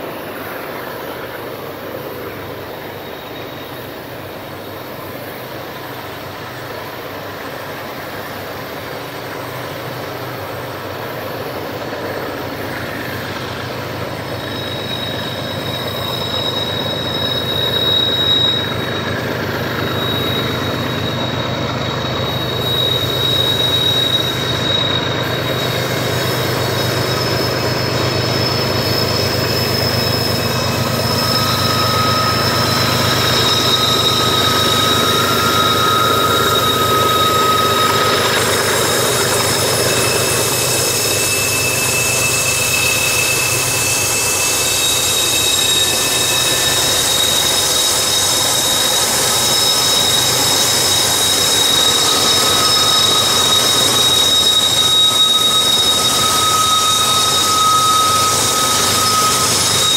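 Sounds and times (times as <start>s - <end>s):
diesel locomotive rumble: 0.0s - 59.9s
train wheels squealing on rails: 0.0s - 59.9s.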